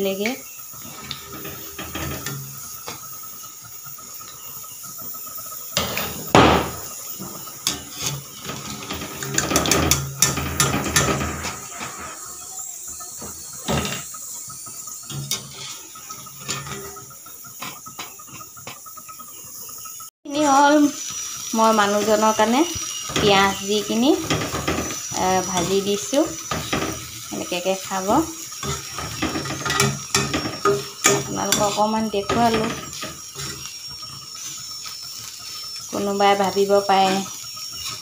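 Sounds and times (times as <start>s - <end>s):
pakoras sizzling in hot oil: 0.0s - 38.0s
wire strainer scraping and clinking: 0.2s - 3.3s, 5.7s - 18.9s, 21.3s - 38.0s.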